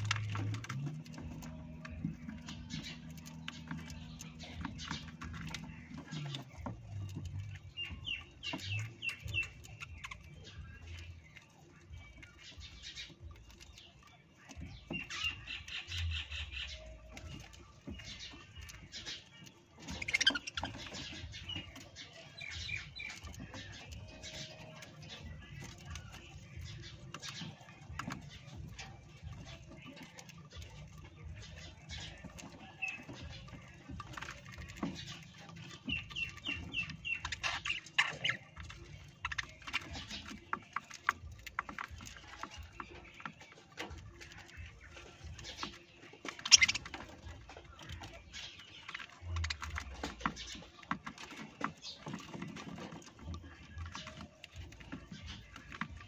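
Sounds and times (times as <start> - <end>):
parrots chirping and squawking: 0.0 - 56.0.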